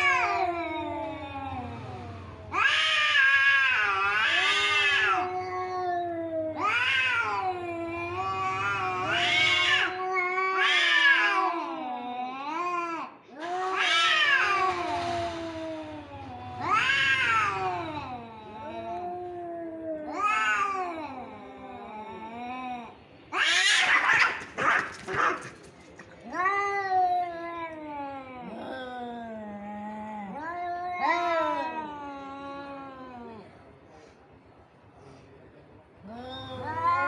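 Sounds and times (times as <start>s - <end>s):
cats yowling: 0.0s - 33.5s, 36.0s - 37.0s.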